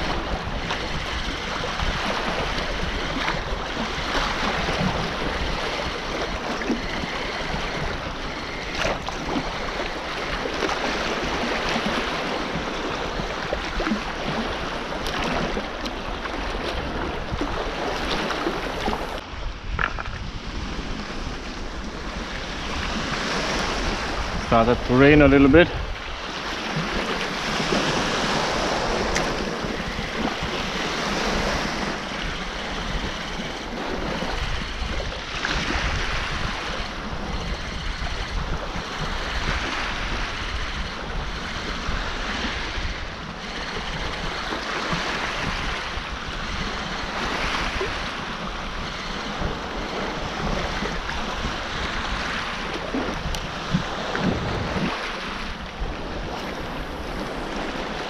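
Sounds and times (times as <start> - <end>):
waves washing onto stony shore: 0.0 - 58.0
wind rumble on microphone: 0.0 - 58.0.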